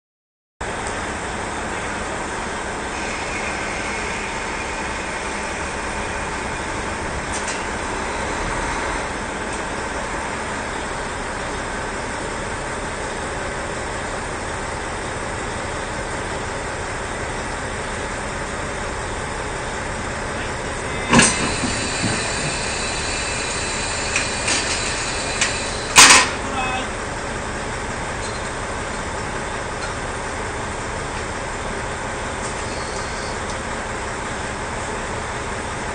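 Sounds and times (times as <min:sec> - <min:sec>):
diesel engine drone: 0:00.6 - 0:35.9.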